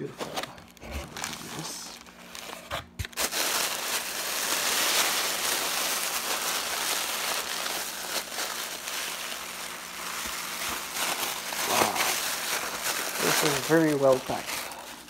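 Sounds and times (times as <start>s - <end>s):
tissue paper crinkling: 0.0s - 15.0s.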